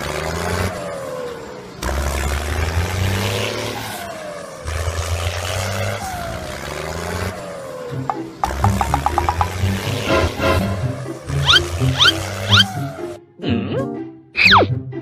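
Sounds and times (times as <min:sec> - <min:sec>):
vehicle engine droning and whining: 0:00.0 - 0:13.3.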